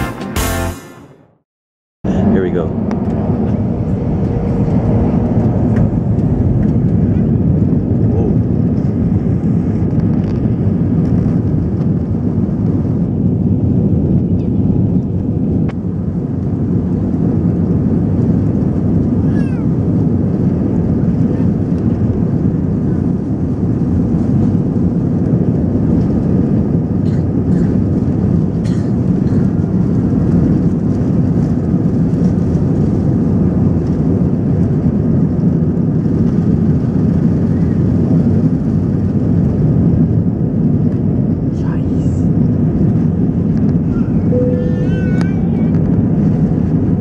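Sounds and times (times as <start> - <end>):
jet engines rumbling at takeoff: 2.0 - 47.0.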